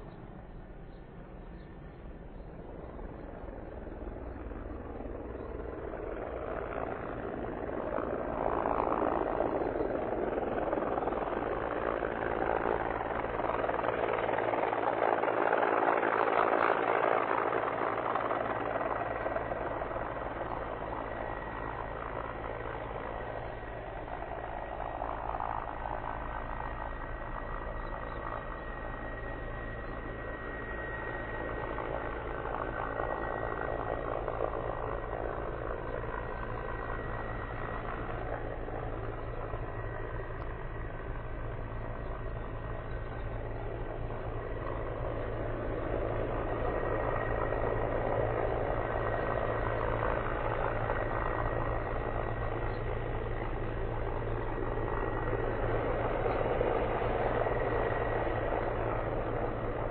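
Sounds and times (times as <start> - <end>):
helicopter rotor and engine: 0.0 - 59.9
high turbine whine: 0.0 - 59.9.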